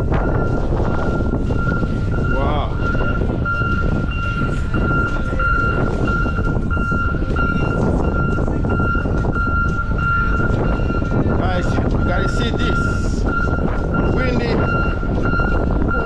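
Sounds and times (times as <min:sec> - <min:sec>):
low engine rumble: 0:00.0 - 0:16.0
vehicle reversing alarm beeping: 0:00.0 - 0:16.0
wind on the microphone: 0:00.0 - 0:16.0.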